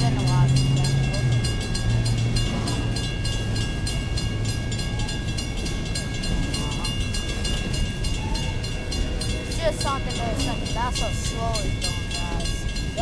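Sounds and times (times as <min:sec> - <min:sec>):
diesel locomotive rumbling: 0:00.0 - 0:13.0
fast high ticking: 0:00.0 - 0:13.0
steady ringing tones: 0:00.0 - 0:13.0.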